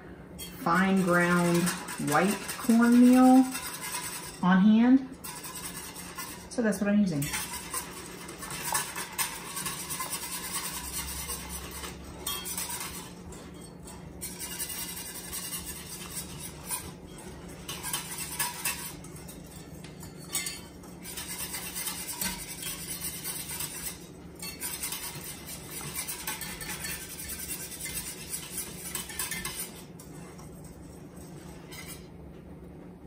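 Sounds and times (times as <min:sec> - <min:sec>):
whisk scraping a metal pan: 0:00.0 - 0:32.2.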